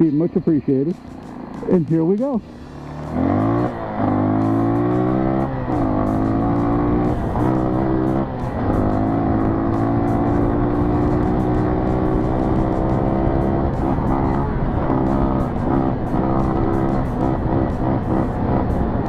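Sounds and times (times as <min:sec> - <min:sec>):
dirt bike engine revving: 0:00.9 - 0:19.0.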